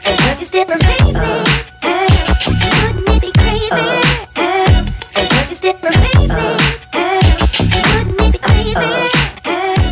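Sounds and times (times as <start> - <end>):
hip hop music with heavy beat: 0.0 - 9.9.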